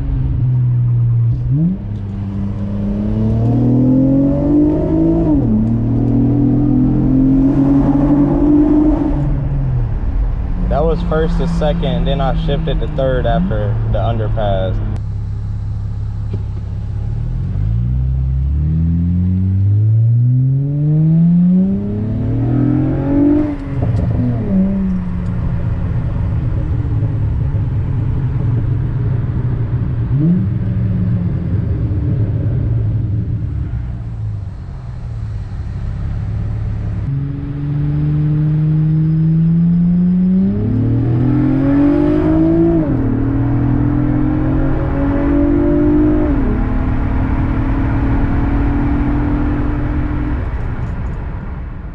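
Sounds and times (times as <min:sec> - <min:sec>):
car engine revving through exhaust: 0:00.0 - 0:50.9.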